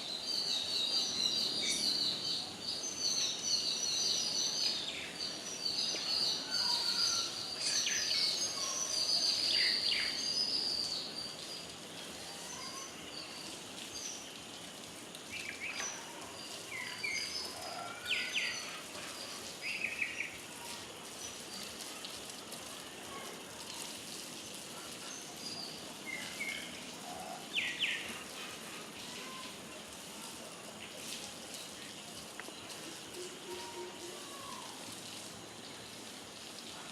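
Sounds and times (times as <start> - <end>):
outdoor background noise: 0.0 - 36.9.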